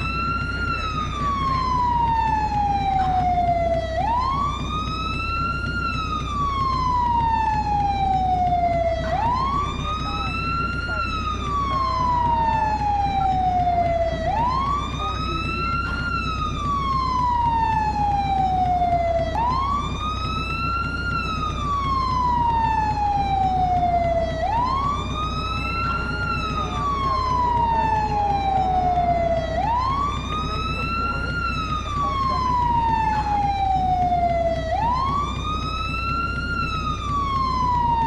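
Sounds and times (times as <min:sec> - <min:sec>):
fire truck siren wailing: 0:00.0 - 0:38.0.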